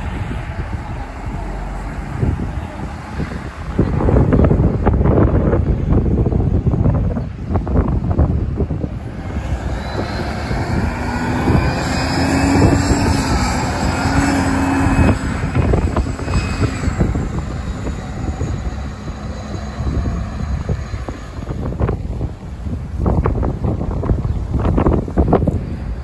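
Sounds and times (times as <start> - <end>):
bus engine passing by: 0.0 - 26.0.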